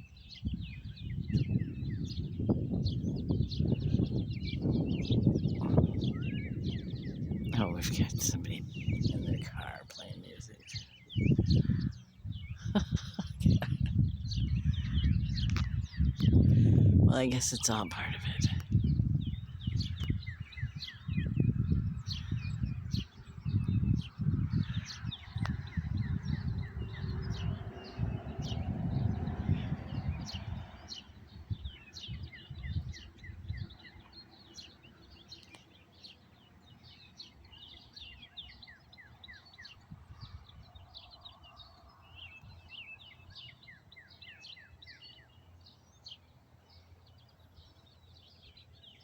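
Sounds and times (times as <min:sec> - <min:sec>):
songbirds chirping: 0:00.0 - 0:49.0.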